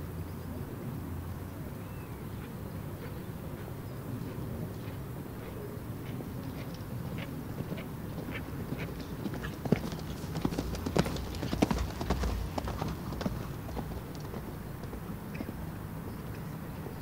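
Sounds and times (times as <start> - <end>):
horse hoofbeats on sand: 3.0 - 17.0.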